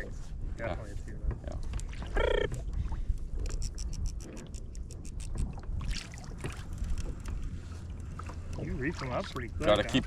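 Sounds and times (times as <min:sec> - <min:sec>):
wind and water rumble: 0:00.0 - 0:10.0.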